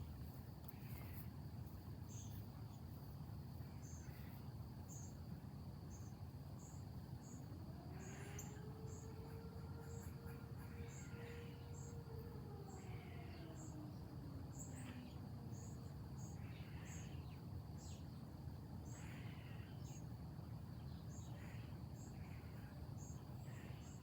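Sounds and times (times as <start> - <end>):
insect trill: 0.0 - 24.0.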